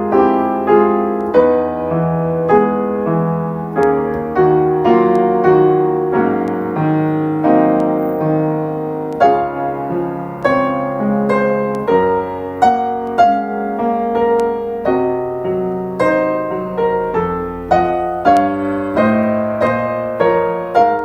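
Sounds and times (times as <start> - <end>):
slow gentle piano piece: 0.0 - 21.0.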